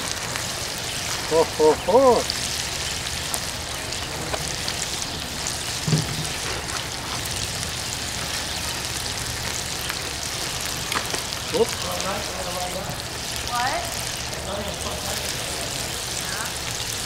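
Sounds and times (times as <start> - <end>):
chicken sizzling on a grill: 0.0 - 17.0.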